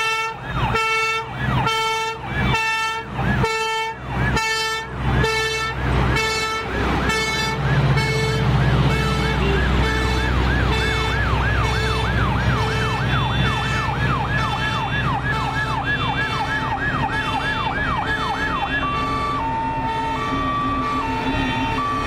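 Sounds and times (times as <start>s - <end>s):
siren sweeping downward: 0.0s - 22.0s
truck engines rumbling: 0.0s - 22.0s
two-tone hi-lo siren: 0.0s - 22.0s.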